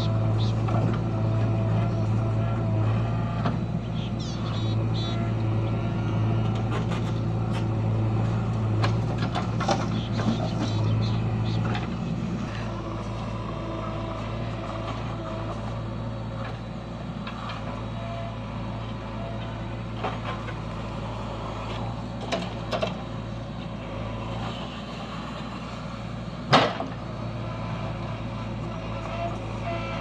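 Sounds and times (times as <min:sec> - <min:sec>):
diesel engines humming: 0:00.0 - 0:30.0.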